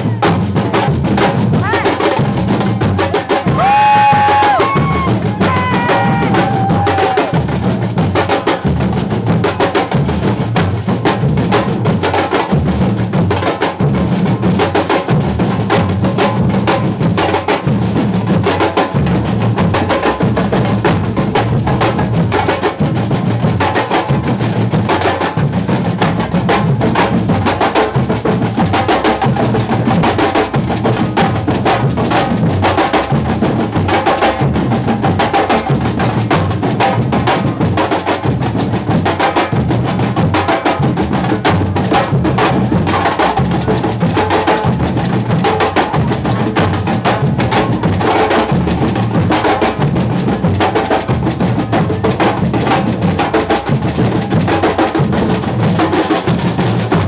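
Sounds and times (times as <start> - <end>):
percussion music with fast beat: 0.0 - 57.0.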